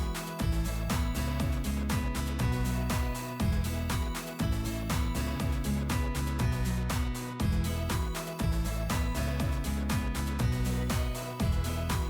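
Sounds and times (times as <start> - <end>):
music with steady beat and bass: 0.0 - 12.0.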